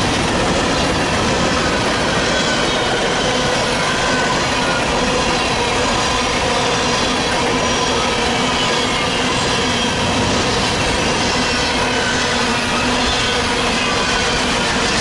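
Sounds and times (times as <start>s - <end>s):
freight train rolling past: 0.0s - 15.0s
wheels squealing: 0.0s - 15.0s.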